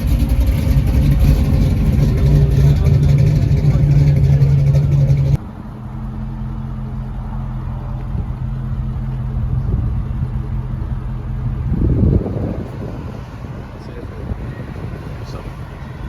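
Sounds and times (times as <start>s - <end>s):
car engine idling: 0.0s - 16.0s
car engine running loud: 0.0s - 16.0s.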